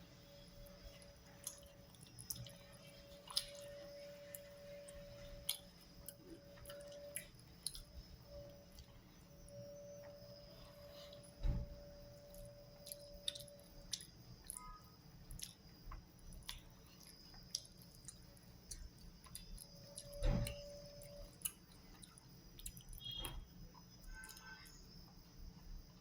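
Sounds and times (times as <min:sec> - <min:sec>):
person chewing food: 0:00.4 - 0:11.4, 0:12.0 - 0:24.5.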